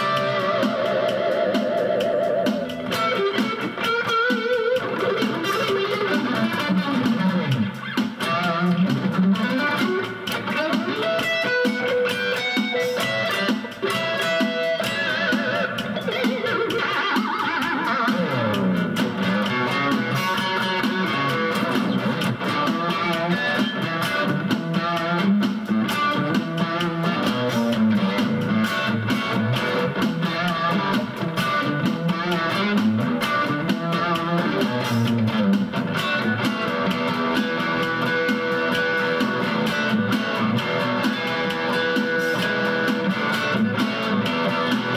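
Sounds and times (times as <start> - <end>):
electric guitar melody: 0.0 - 44.9
steady beat: 0.0 - 44.9.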